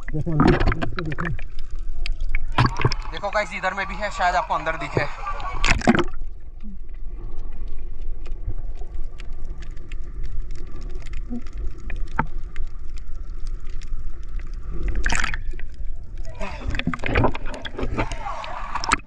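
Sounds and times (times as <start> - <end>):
underwater low rumble: 0.0 - 19.0.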